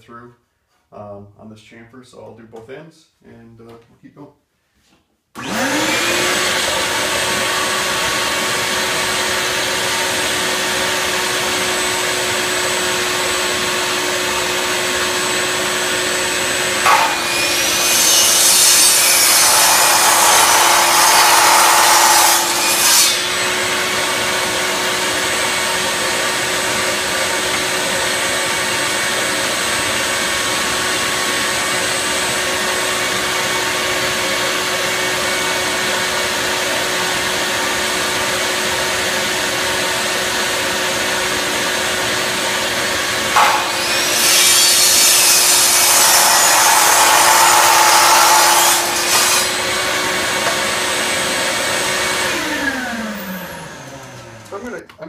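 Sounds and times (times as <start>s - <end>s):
miter saw cutting wood: 5.4s - 54.8s.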